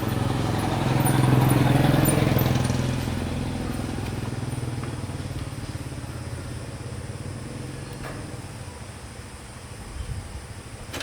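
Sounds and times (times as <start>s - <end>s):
small vehicle engine running: 0.0s - 9.8s.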